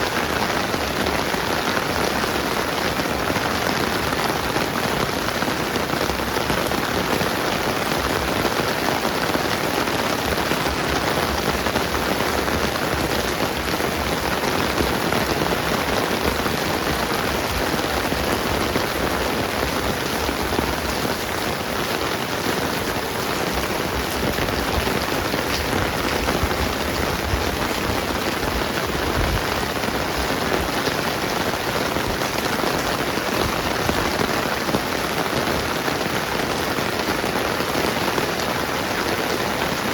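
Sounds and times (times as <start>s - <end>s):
steady rain on wet ground: 0.0s - 39.9s.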